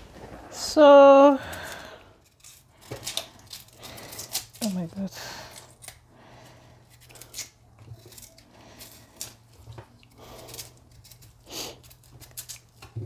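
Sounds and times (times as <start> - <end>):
knife scraping peel: 1.5 - 13.0.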